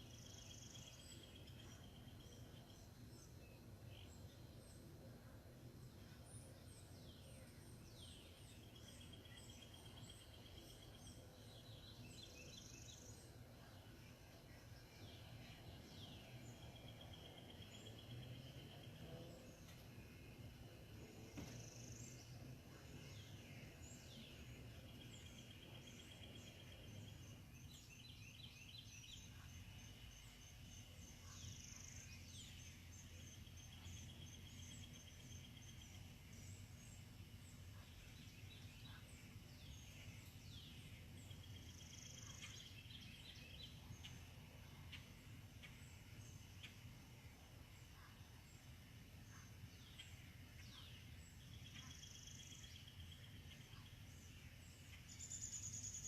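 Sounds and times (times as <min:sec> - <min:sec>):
birds calling and trilling: 0:00.0 - 0:56.0.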